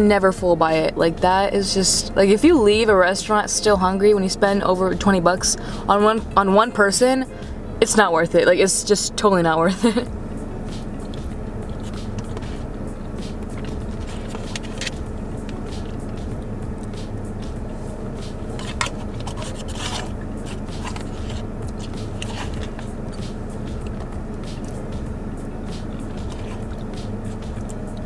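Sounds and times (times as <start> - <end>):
car cabin hum: 0.0 - 28.0.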